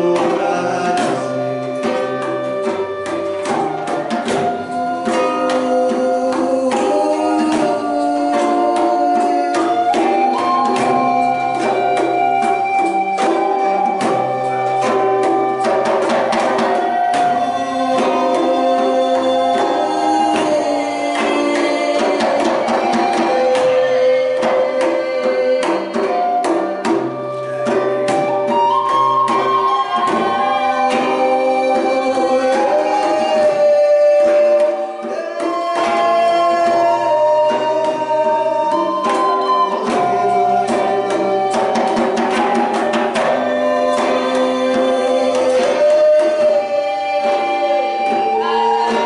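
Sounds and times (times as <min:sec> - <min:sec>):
acoustic guitar: 0:00.0 - 0:49.0
hand percussion: 0:00.0 - 0:49.0
wind instruments playing melody: 0:00.0 - 0:49.0.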